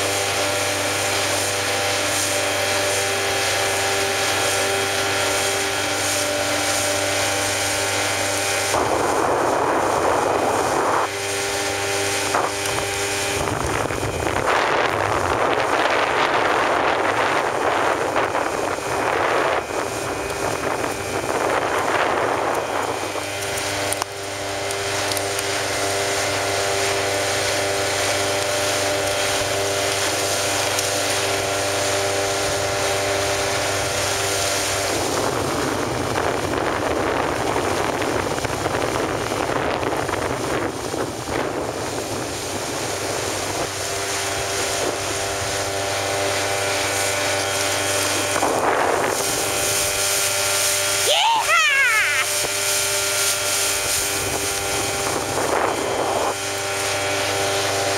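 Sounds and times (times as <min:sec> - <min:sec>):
wind buffeting microphone: 0:00.0 - 0:51.0, 0:52.0 - 0:57.9
outboard motor running: 0:00.0 - 0:57.9.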